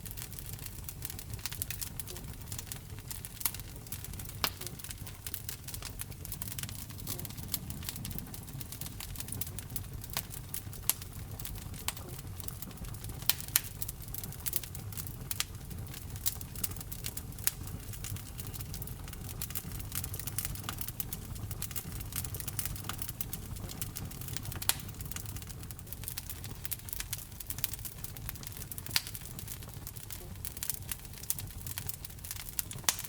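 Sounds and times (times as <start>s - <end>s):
wood fire crackling in fireplace: 0.0s - 33.0s.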